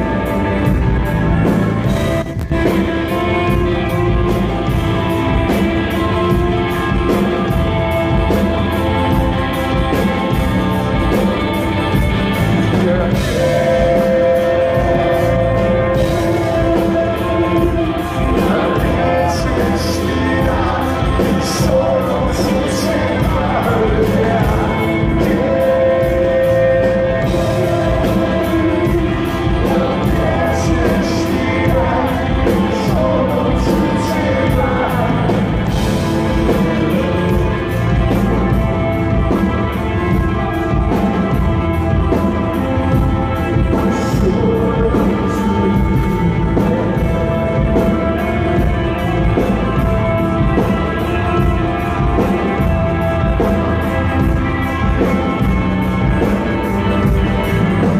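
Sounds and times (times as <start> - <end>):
drum kit: 0.0 - 57.9
electric guitars: 0.0 - 57.9
keyboard: 0.0 - 57.9
lead vocal singing: 0.0 - 57.9.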